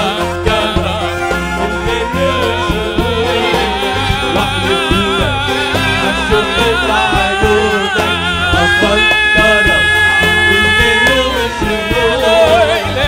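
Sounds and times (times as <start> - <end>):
instrumental accompaniment: 0.0 - 13.0
man singing into a microphone: 0.0 - 13.0
steady percussion beat: 0.0 - 13.0.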